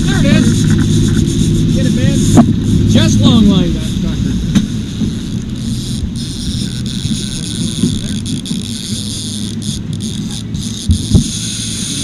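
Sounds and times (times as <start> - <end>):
outboard motor running: 0.0 - 12.0
water rushing along hull: 0.0 - 12.0.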